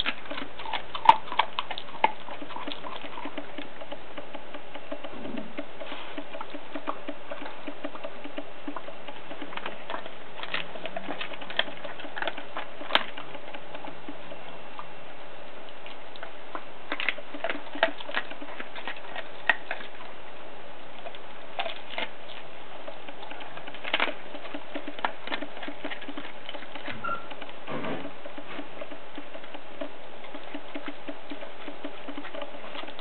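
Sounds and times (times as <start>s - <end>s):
bones cracking: 0.0s - 14.9s, 15.7s - 20.1s, 21.0s - 33.0s
dog chewing wetly: 0.0s - 33.0s.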